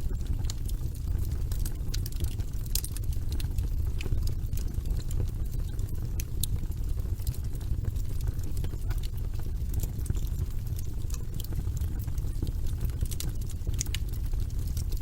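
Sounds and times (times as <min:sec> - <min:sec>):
wood logs crackling in fireplace: 0:00.0 - 0:15.0.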